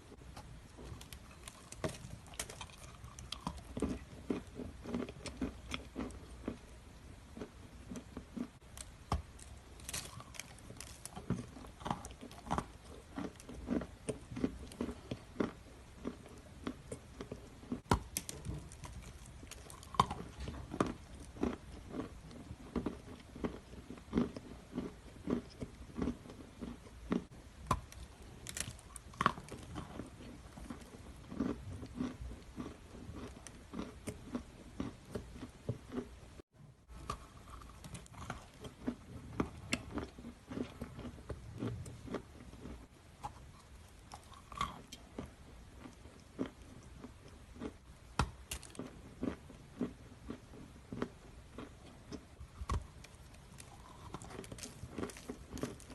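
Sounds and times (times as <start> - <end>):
crunching and chewing cookie: 0.0 - 55.9.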